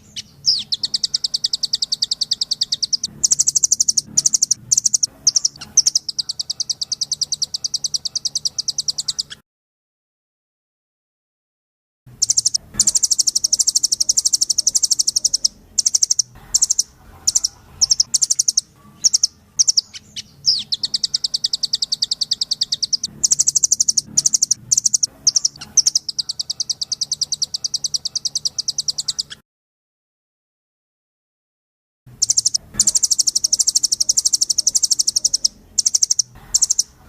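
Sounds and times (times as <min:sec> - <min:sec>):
songbird singing rapid trills: 0:00.0 - 0:09.4, 0:12.2 - 0:29.4, 0:32.2 - 0:37.0.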